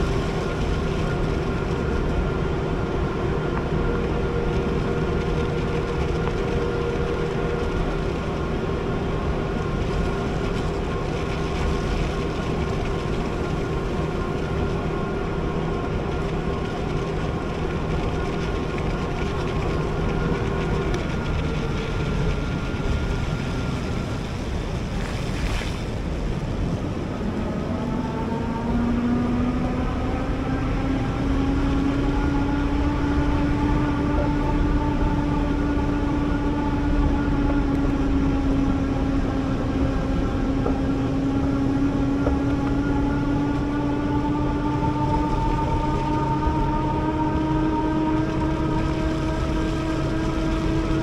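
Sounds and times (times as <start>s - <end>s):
steady rushing noise: 0.0s - 51.0s.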